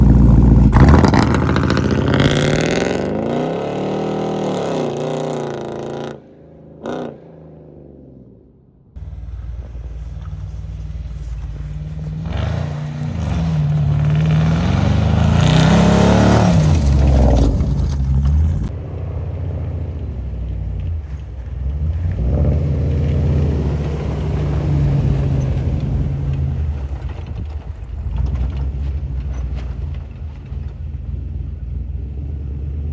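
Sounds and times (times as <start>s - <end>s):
vehicle engine revving: 0.0s - 32.9s.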